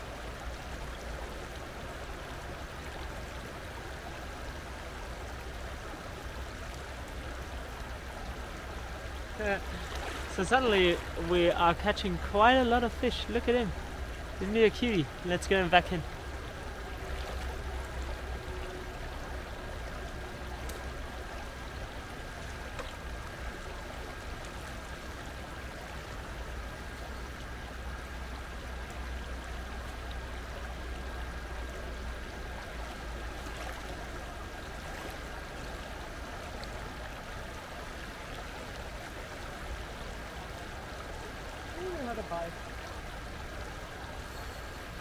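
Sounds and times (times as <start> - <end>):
stream water flowing: 0.0 - 45.0.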